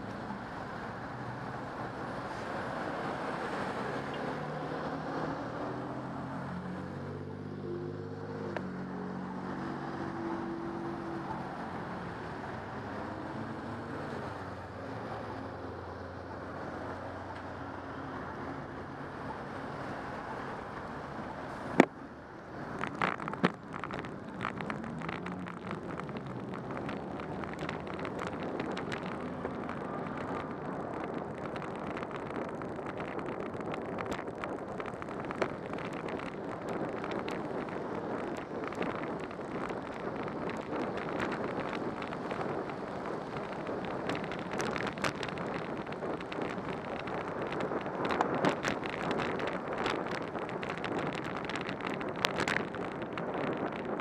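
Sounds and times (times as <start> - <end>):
cars passing on wet road: 0.0 - 54.0
wind and road hiss: 0.0 - 54.0
raindrops ticking on camera: 8.5 - 54.0.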